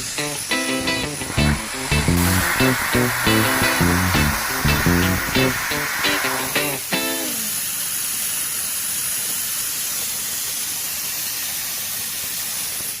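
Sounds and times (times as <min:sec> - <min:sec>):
arc gouging torch hissing: 0:00.0 - 0:13.0.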